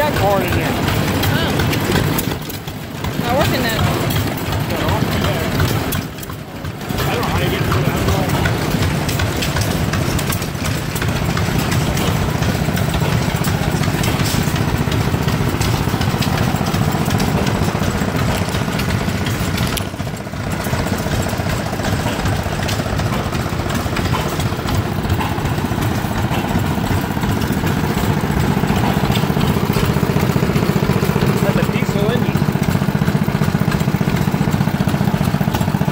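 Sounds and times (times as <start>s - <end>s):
old gasoline engines puttering: 0.0s - 35.9s.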